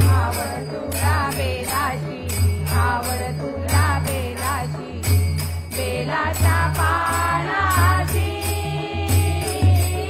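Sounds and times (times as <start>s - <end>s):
women singing in unison: 0.0s - 10.0s.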